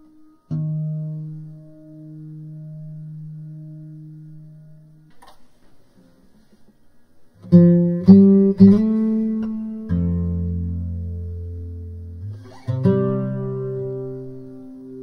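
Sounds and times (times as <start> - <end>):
acoustic guitar notes: 0.0 - 15.0.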